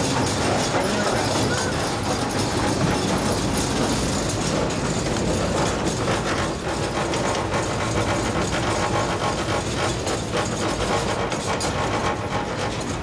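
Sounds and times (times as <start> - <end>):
miniature train rolling on track: 0.0 - 13.0.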